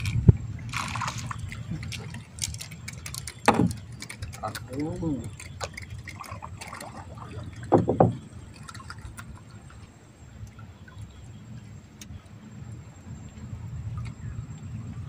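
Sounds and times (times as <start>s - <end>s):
water lapping against boat hull: 0.0s - 12.4s.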